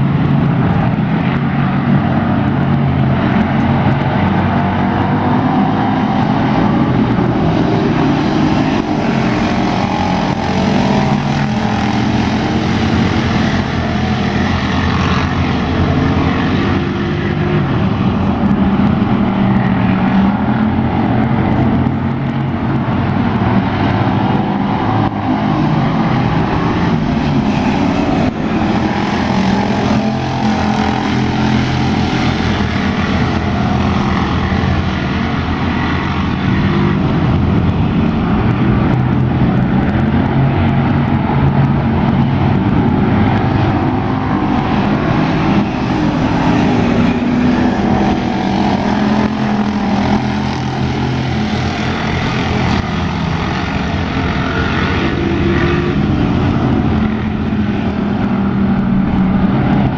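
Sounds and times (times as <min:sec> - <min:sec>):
race car engines droning: 0:00.0 - 0:59.9.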